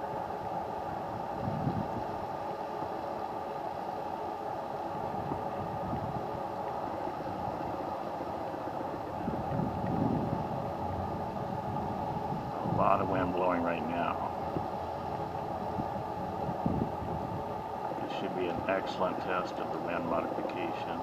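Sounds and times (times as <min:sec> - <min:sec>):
wind gusting against microphone: 0:00.0 - 0:21.0.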